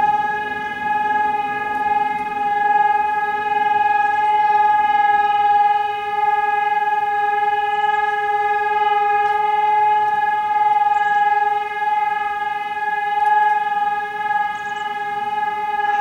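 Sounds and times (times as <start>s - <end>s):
warning siren steady tone: 0.0s - 16.0s.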